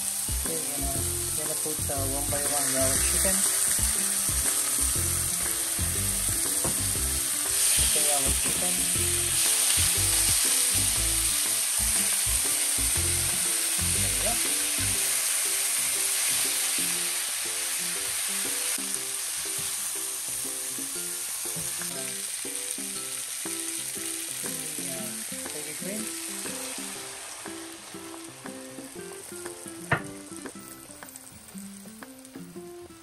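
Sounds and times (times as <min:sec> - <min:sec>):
chicken sizzling in a frying pan: 0:00.0 - 0:33.0.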